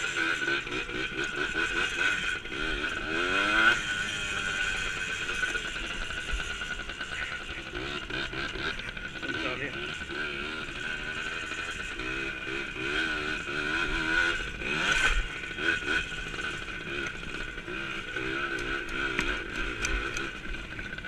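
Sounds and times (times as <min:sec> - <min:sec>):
dirt bike engine: 0:00.0 - 0:21.0.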